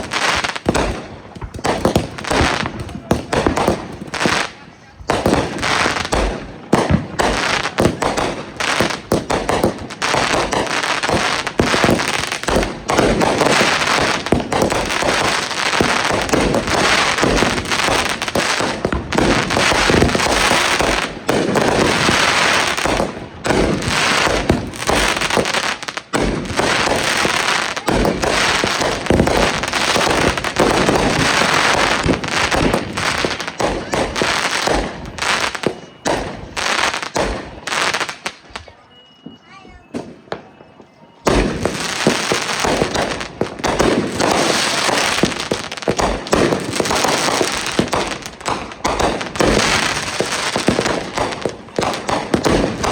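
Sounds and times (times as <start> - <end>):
fireworks crackling and banging: 0.0 - 52.9.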